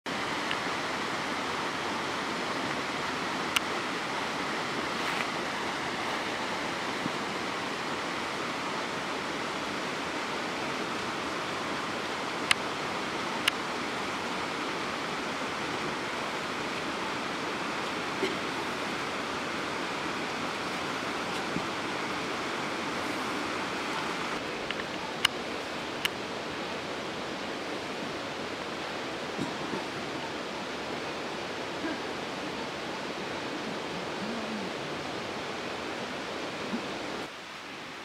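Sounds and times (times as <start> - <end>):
stream rushing: 0.1 - 38.0.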